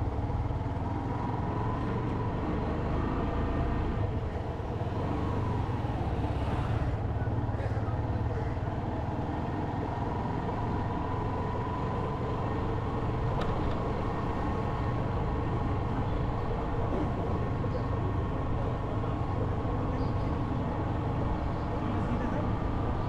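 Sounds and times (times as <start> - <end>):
motorcycle running: 0.0 - 23.0
road noise: 0.0 - 23.0.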